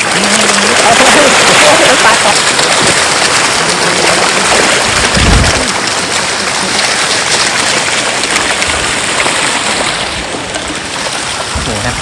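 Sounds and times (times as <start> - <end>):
fish splashing at water surface: 0.0 - 12.0
rushing waterfall stream: 0.0 - 12.0.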